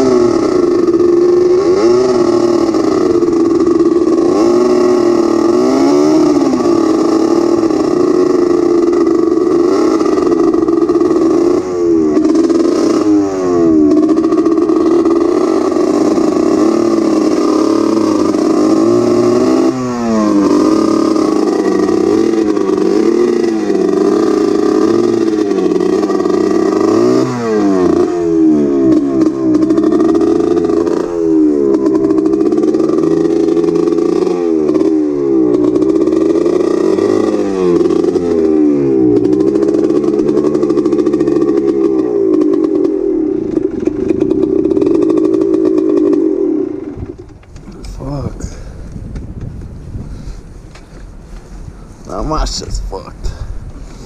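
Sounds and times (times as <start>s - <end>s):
atv engine revving: 0.0s - 51.4s.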